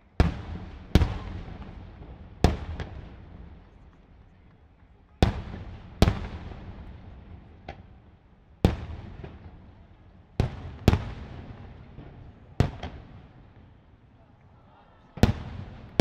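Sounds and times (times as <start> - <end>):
fireworks bursting with echo: 0.0 - 4.2, 5.2 - 13.8, 15.1 - 16.0.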